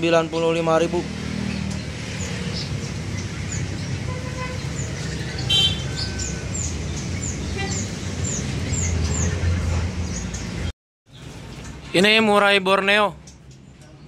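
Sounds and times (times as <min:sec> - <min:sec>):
low rumble of street traffic: 0:00.0 - 0:14.0
songbird chirping: 0:00.2 - 0:12.3.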